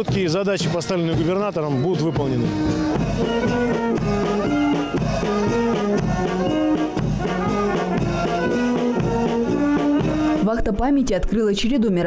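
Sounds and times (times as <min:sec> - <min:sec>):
brass band playing: 0:00.0 - 0:10.6.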